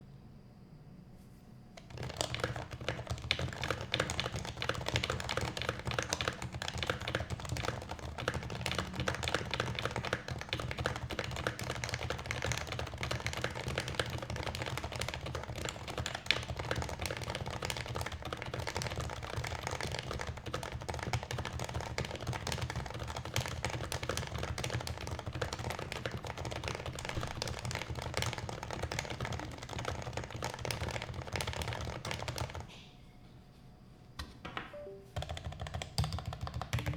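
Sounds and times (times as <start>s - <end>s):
mechanical keyboard typing: 1.8s - 32.7s, 34.7s - 36.9s.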